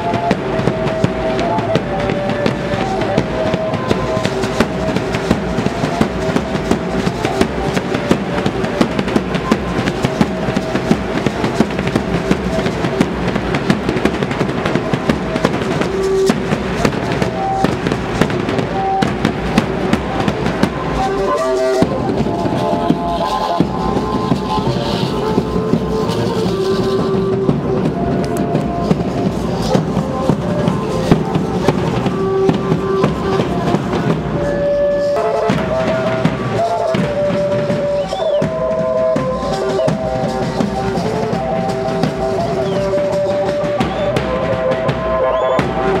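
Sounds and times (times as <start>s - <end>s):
dance band playing: 0.0s - 46.0s.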